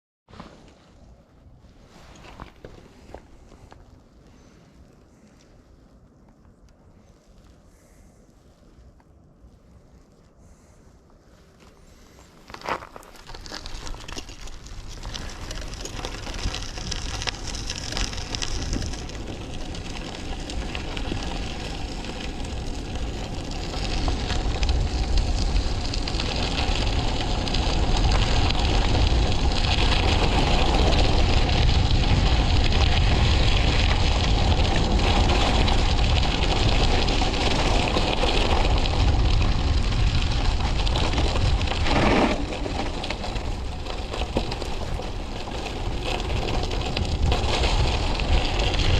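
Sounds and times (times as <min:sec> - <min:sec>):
tyres rolling over rough ground: 0:00.3 - 0:07.1, 0:10.3 - 0:48.9
wind rumbling on microphone: 0:00.3 - 0:48.9.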